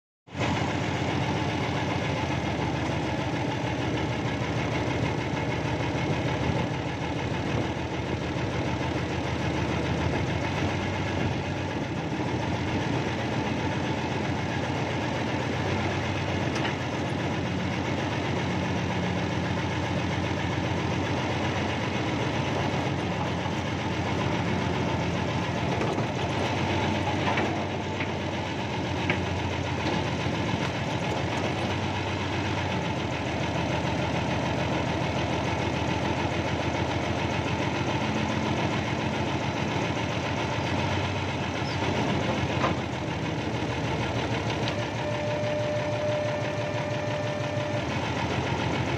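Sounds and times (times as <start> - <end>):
diesel engine running: 0.3 - 48.9.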